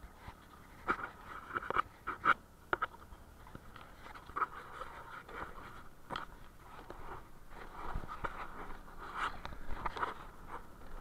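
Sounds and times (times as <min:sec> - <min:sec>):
microphone handling rustling: 0:00.2 - 0:11.0.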